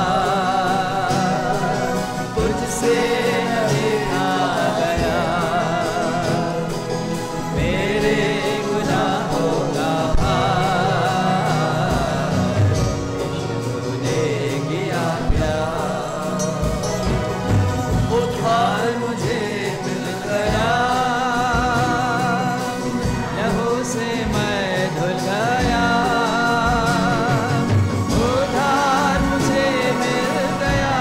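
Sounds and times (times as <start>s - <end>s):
beat strokes: 0.0s - 31.0s
person singing with vibrato: 0.0s - 31.0s
sustained instrumental accompaniment: 0.0s - 31.0s.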